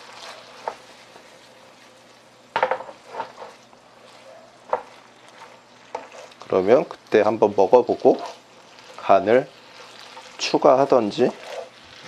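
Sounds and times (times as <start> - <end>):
squid sizzling in a frying pan: 0.0 - 12.0
wooden spatula scraping a pan: 0.0 - 12.0.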